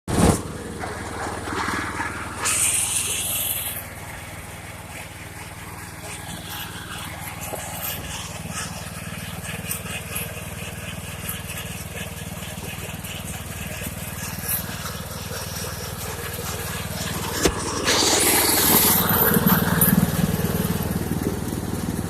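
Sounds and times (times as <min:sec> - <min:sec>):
mower engine running: 0:00.1 - 0:22.0.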